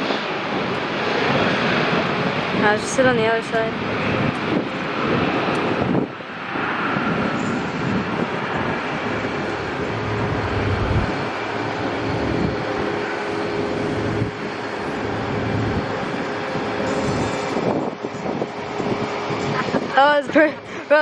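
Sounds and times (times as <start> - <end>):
jet engines roaring: 0.0 - 21.0
wind on microphone: 0.0 - 21.0.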